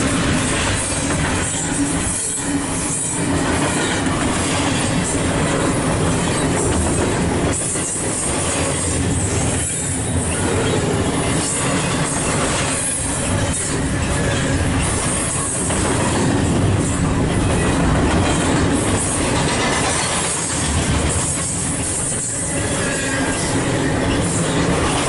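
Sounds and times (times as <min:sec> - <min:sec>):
train wheels clattering on rail: 0:00.0 - 0:25.0.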